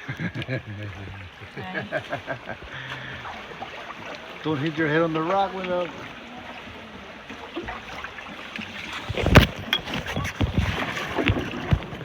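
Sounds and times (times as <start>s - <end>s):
soft wash of water: 0.0s - 12.0s.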